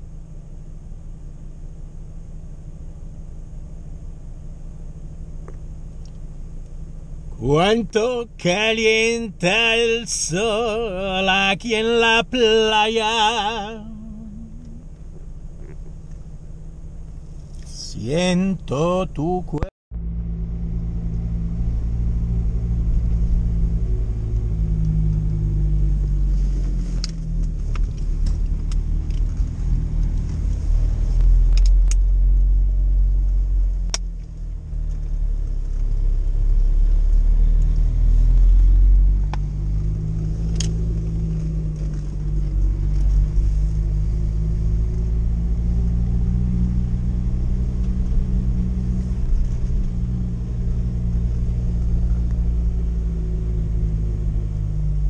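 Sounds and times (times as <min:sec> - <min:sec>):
van engine running: 0:00.0 - 0:55.0.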